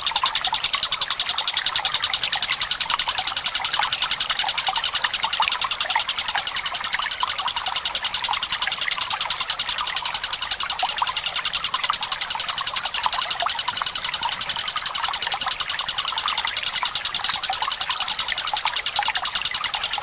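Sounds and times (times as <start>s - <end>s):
bird rattling trill: 0.0s - 20.0s
trickling water: 0.0s - 20.0s.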